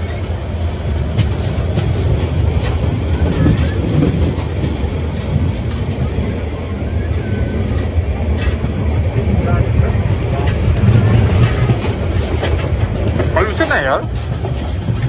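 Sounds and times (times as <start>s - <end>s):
steam train rumbling: 0.0s - 15.0s
wheels clattering on rails: 0.0s - 15.0s.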